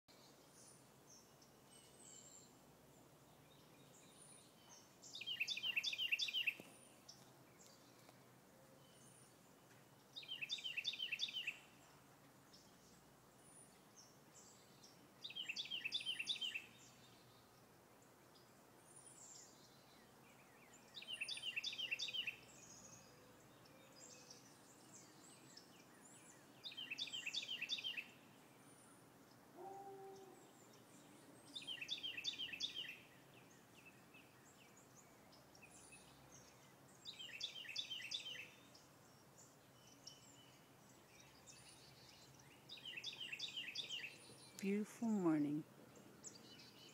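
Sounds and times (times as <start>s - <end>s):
songbird singing rapid notes: 3.4s - 8.2s, 10.0s - 13.0s, 13.6s - 17.6s, 19.0s - 29.4s, 30.2s - 46.9s.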